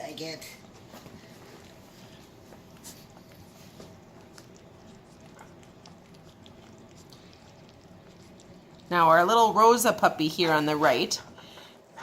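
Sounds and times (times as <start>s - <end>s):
puppies lapping food: 0.6s - 11.8s.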